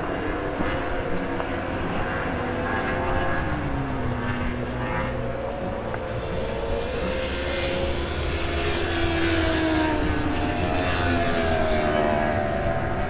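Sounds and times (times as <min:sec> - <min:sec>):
motorcycle engines at high revs: 0:00.0 - 0:13.0.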